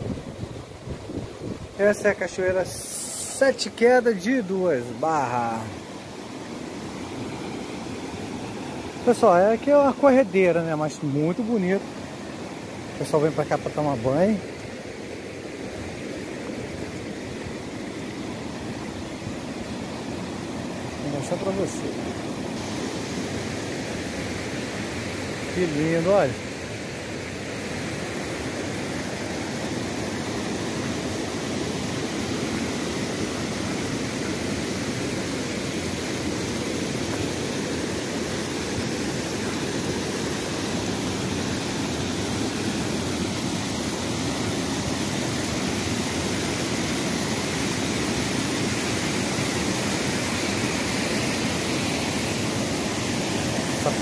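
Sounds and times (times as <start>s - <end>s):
river rapids rushing: 1.6s - 54.0s.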